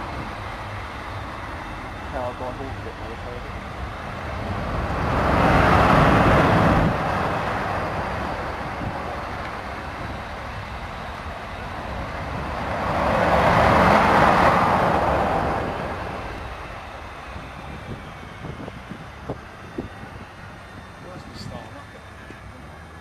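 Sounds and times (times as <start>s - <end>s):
jet engine rushing: 0.0s - 23.0s.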